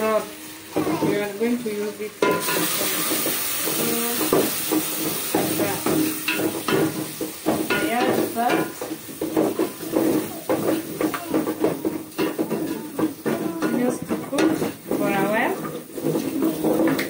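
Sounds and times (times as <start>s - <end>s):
meat and onions sizzling: 0.0s - 17.0s
wooden spoon scraping pot: 2.3s - 17.0s.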